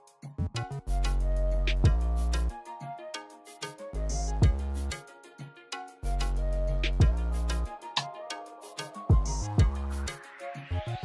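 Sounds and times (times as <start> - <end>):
instrumental music with a beat: 0.0 - 11.0.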